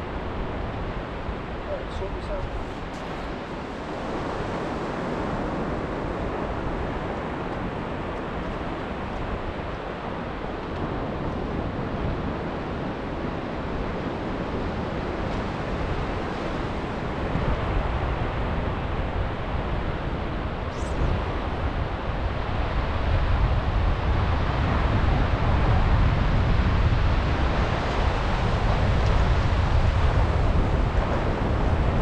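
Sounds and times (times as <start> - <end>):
wind on microphone: 0.0 - 32.0
surf breaking on sandy beach: 0.3 - 32.0.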